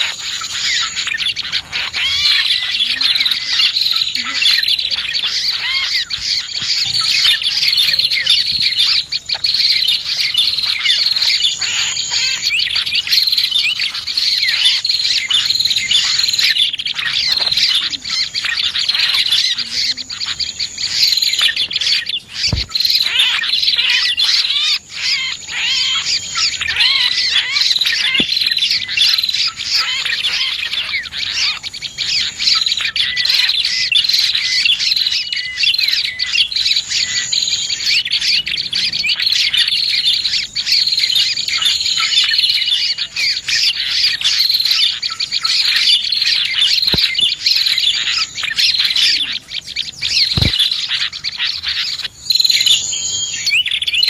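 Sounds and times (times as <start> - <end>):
small songbirds chirping and trilling: 0.0 - 54.0.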